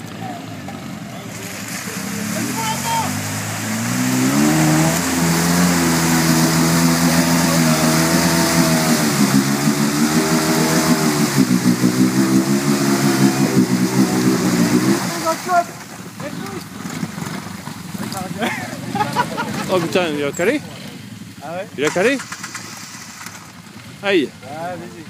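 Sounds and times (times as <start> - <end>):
mud splashing: 0.0 - 20.3, 21.0 - 24.0
quad engine revving hard: 0.0 - 20.3, 21.8 - 23.5.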